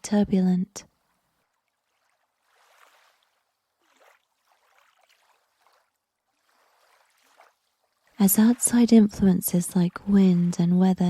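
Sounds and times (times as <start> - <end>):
faint lapping water: 0.9 - 11.0.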